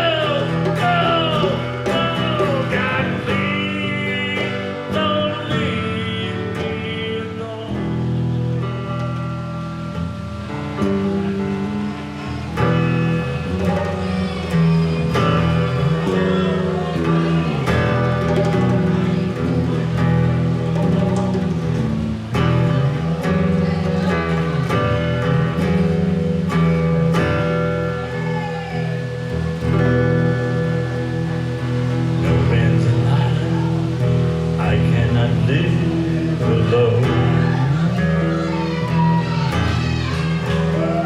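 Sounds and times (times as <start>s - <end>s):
live guitar music: 0.0s - 41.0s.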